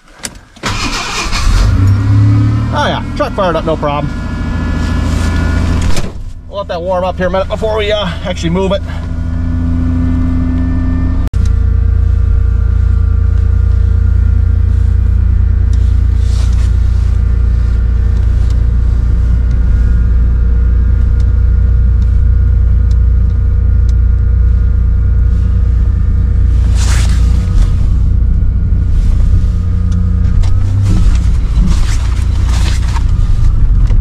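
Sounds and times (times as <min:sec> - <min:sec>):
truck engine running: 0:00.6 - 0:34.0.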